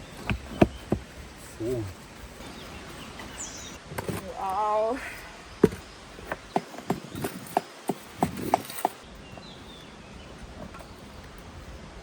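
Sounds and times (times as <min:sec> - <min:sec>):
outdoor background: 0:00.0 - 0:12.0.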